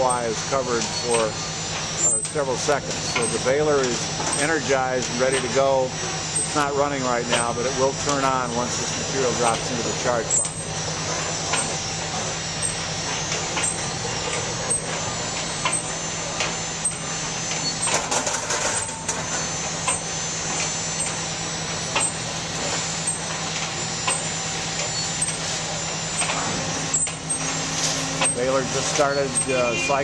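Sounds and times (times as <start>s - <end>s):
industrial machinery hum: 0.0s - 30.0s
low steady machine tone: 0.0s - 30.0s.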